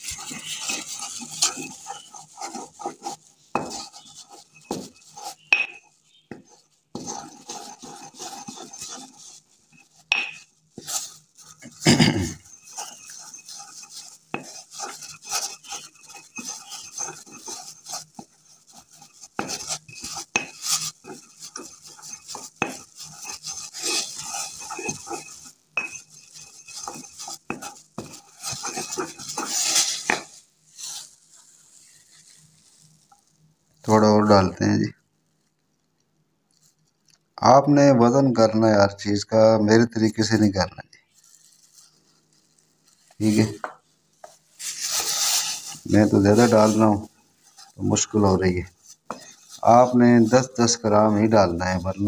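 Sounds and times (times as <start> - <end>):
pestle grinding in mortar: 0.0 - 33.3, 43.0 - 52.0.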